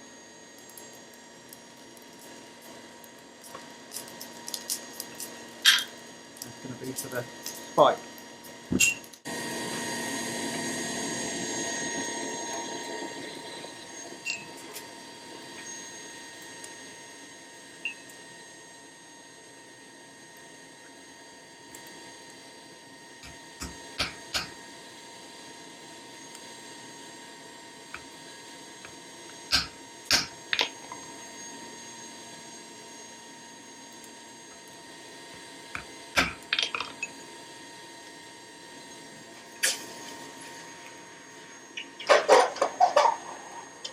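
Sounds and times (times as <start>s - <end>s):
steady background hum: 0.0s - 43.9s.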